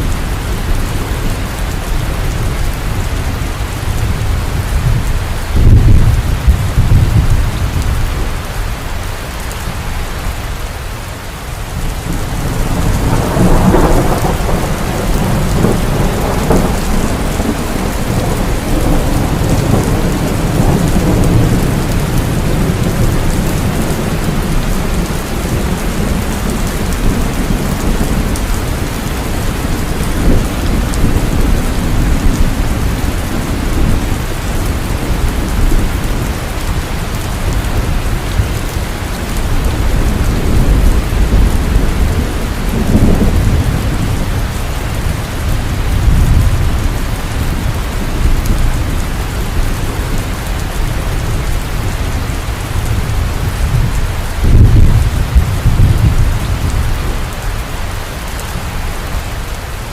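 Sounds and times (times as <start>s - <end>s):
thunder rumbling: 0.0s - 9.9s, 11.6s - 59.9s
heavy rain: 0.0s - 59.9s.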